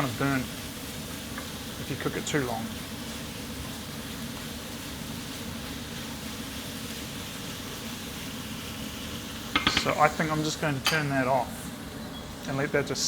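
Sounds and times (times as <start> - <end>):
kitchen extractor hood running: 0.0 - 13.0
sauce cooking in a pan: 0.0 - 13.0.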